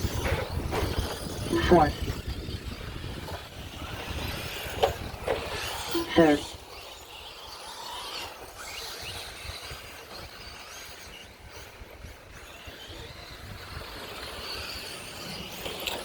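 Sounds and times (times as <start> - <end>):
rc truck motors whining: 0.0 - 16.0
rushing outdoor noise: 0.0 - 16.0.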